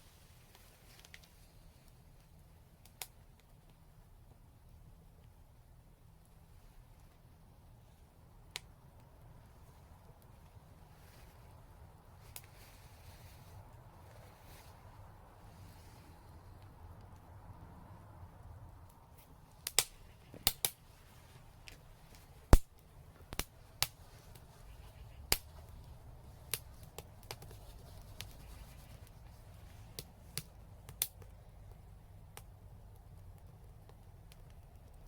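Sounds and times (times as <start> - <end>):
faint low rumble: 0.0 - 35.0
fire crackling: 0.0 - 35.0.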